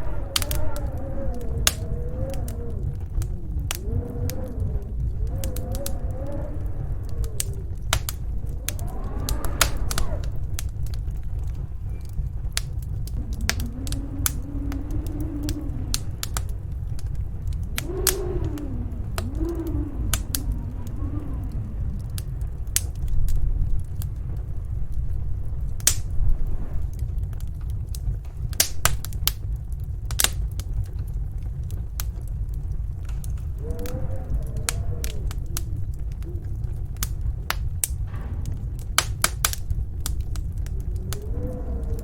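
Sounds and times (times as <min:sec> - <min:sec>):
wind rumbling and howling: 0:00.0 - 0:42.0
wood fire crackling and popping: 0:00.0 - 0:42.0.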